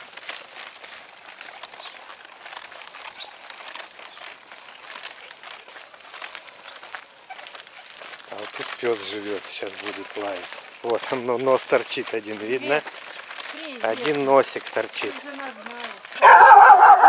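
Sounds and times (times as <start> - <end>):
footsteps crunching on dirt road: 0.0 - 17.0.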